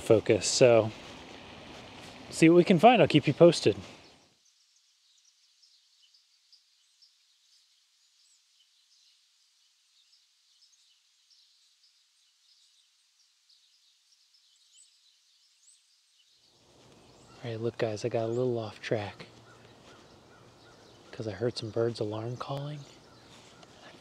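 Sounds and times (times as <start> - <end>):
distant small birds chirping: 0.0 - 24.0.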